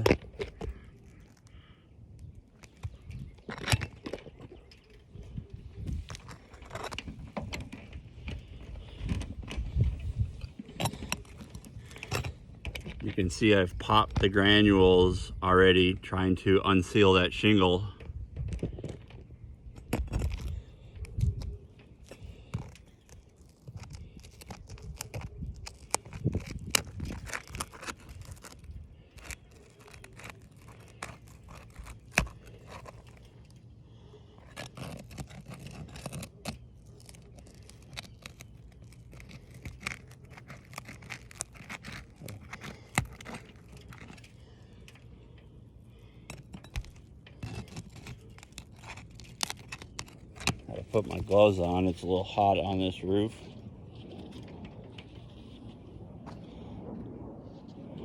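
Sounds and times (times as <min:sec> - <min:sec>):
granules crunching: 0:00.0 - 0:15.4, 0:16.8 - 0:55.8
shingles scraping and tearing: 0:00.0 - 0:15.8, 0:16.8 - 0:56.7.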